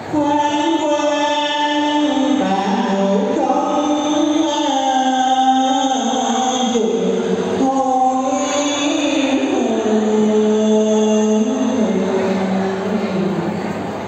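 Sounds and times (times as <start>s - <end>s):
person chanting in long notes: 0.0s - 13.8s.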